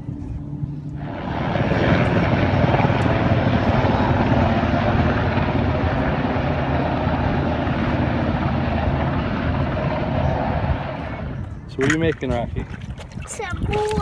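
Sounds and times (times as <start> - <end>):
loud aircraft engine overhead: 0.0 - 12.9.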